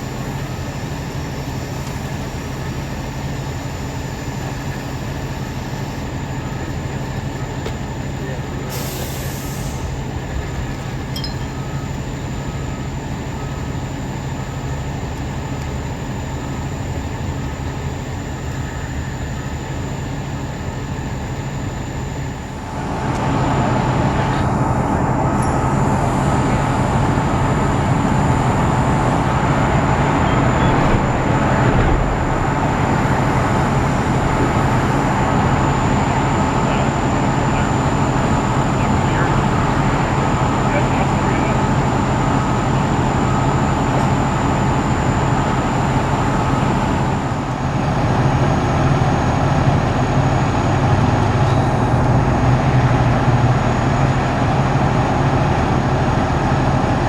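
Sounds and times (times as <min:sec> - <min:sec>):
diesel truck engines humming: 0:00.0 - 0:57.0
machinery noise: 0:00.0 - 0:57.0.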